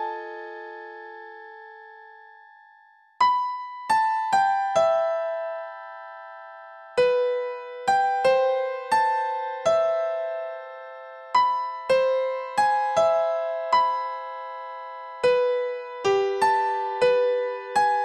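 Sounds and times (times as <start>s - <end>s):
slow piano-like keyboard melody: 0.0s - 18.0s.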